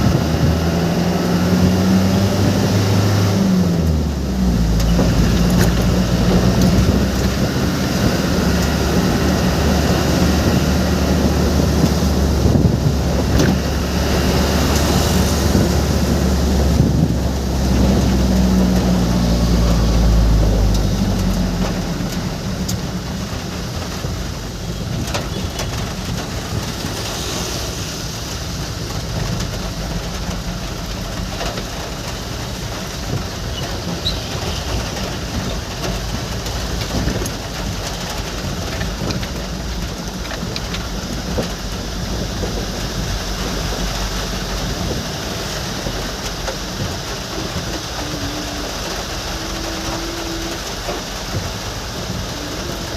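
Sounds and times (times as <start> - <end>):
low engine hum: 0.0 - 52.9
rain and road hiss: 0.0 - 52.9.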